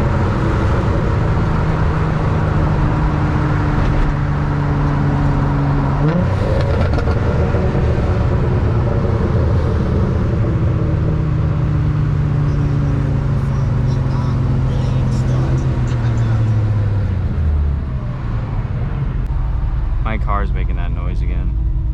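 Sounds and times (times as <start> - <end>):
car engine running and revving: 0.0 - 21.9.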